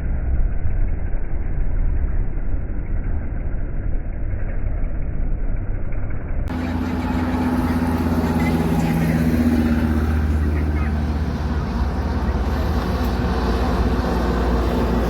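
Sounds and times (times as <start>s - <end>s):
engine humming: 0.0s - 15.0s
truck engine rumbling: 0.0s - 15.0s.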